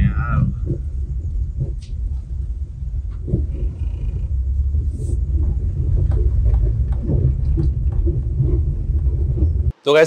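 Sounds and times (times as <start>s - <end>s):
car engine and tyres rumbling: 0.0s - 9.7s.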